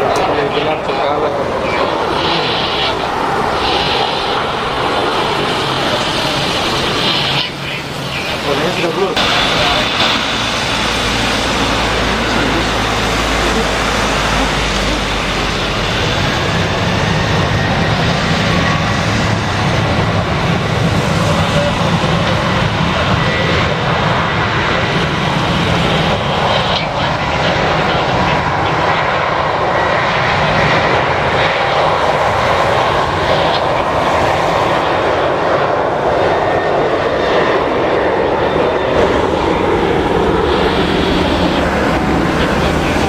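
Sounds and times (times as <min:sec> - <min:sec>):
jet engines roaring: 0:00.0 - 0:43.0.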